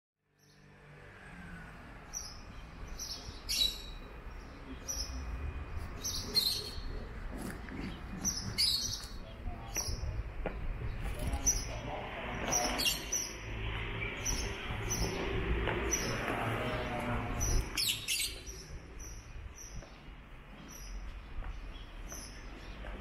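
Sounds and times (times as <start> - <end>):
small birds chirping: 2.0 - 23.0.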